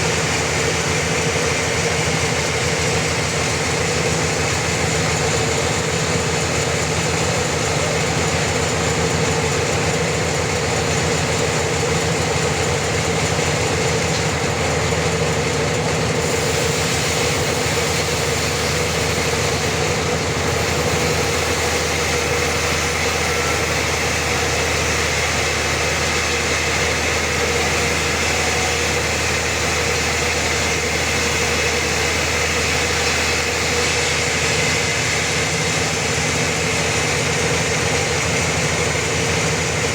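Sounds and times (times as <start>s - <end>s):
wood saw machinery humming: 0.0s - 39.9s.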